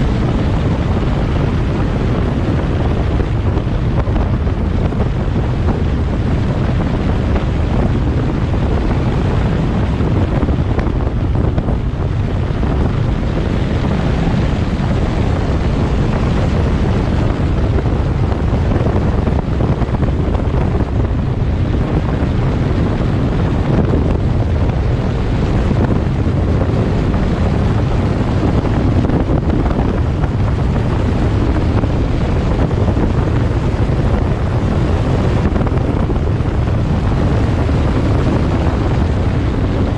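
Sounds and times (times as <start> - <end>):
road rumble: 0.0 - 39.9
wind buffeting microphone: 0.0 - 39.9.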